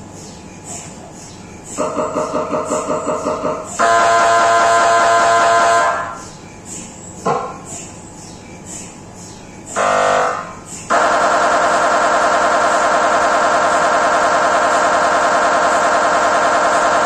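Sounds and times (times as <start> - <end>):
mri scanner buzzing pulses: 0.0 - 17.0.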